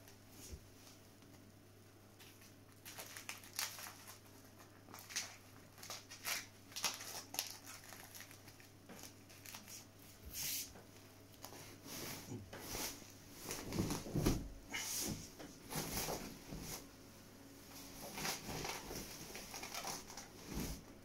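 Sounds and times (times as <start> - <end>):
canvas rustling and crinkling: 2.2 - 9.9, 11.3 - 21.0.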